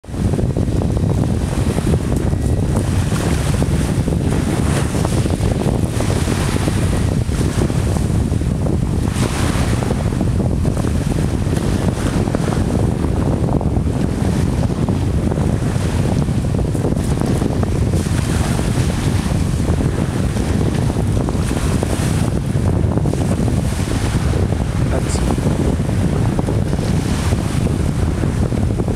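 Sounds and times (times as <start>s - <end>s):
choppy sea: 0.0s - 28.9s
wind buffeting microphone: 0.0s - 28.9s.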